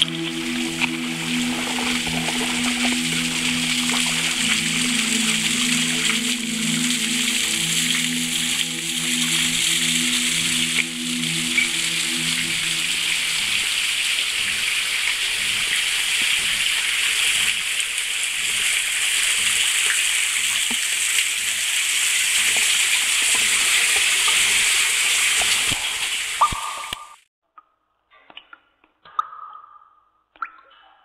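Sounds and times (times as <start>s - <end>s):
water pouring and splashing: 0.0s - 27.2s.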